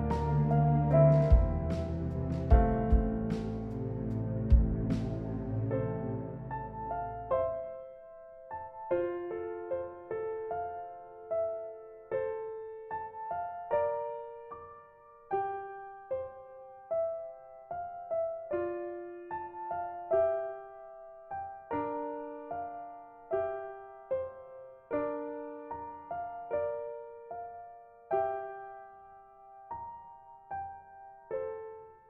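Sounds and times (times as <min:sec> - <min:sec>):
soft piano music: 0:00.0 - 0:32.0.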